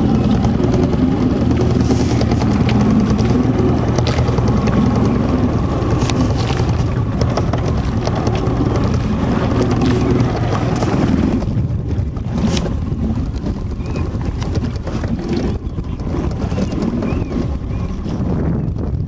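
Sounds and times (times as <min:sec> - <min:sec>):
knocks and splashes: 0:00.0 - 0:17.0
boat motor running: 0:00.0 - 0:19.0.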